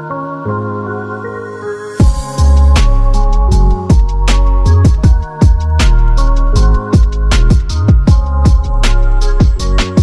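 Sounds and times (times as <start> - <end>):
electronic music with bass and drums: 0.0 - 10.0.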